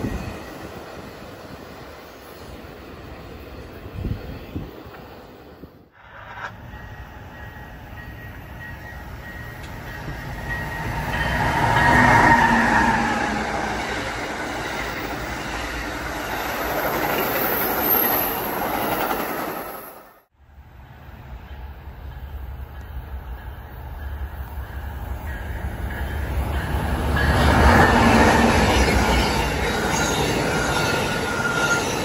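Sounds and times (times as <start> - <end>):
locomotive whine: 0.0 - 19.2, 20.5 - 32.0
passenger train rumble: 0.0 - 32.0.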